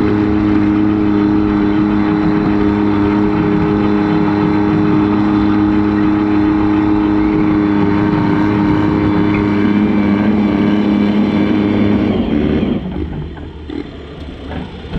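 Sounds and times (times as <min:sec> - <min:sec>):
tractor engine revving high: 0:00.0 - 0:14.9.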